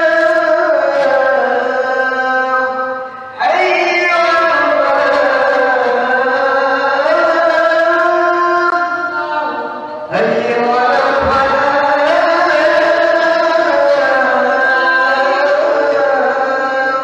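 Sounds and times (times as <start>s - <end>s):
person singing chant-like notes: 0.0s - 17.0s.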